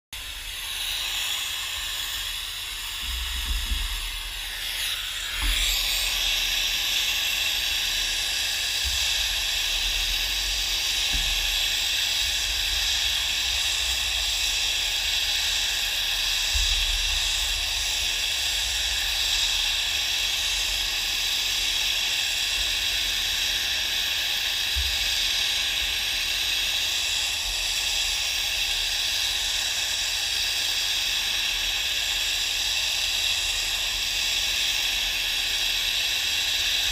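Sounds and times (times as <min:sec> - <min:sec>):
gas torch flame hissing: 0:00.2 - 0:36.9.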